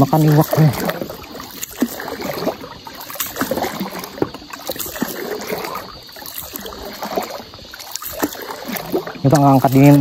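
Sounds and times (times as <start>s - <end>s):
paddle splashing in water: 0.0s - 10.0s.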